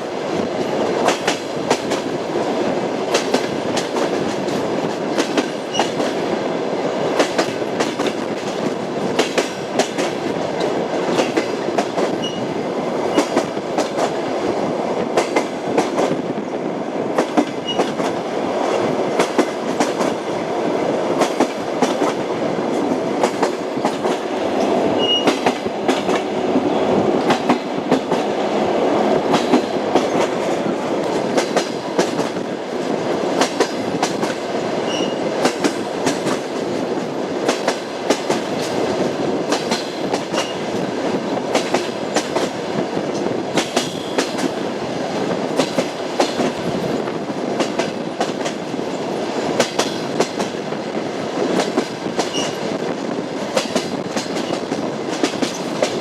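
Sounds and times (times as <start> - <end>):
railway carriage rumble: 0.0 - 56.0.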